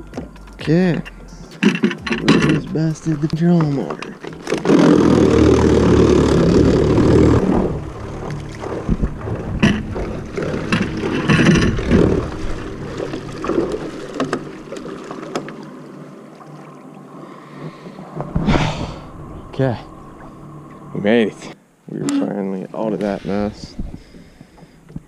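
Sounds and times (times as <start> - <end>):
light water noise: 0.0 - 25.0.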